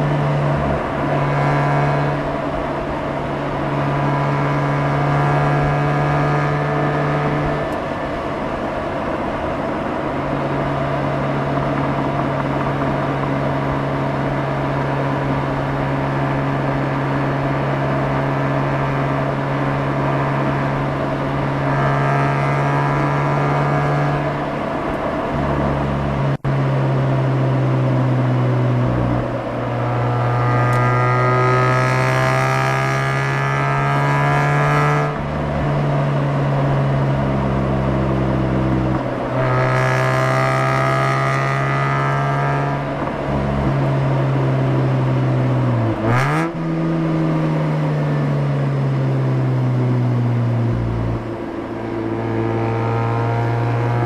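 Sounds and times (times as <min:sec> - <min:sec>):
rotary engine exhaust accelerating: 0:00.0 - 0:54.0.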